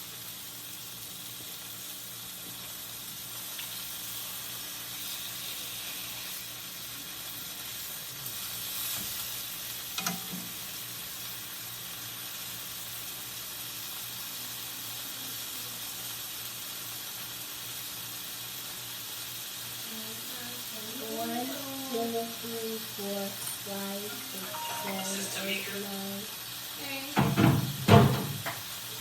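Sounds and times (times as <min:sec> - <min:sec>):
steak sizzling in a pan: 0:00.0 - 0:29.0.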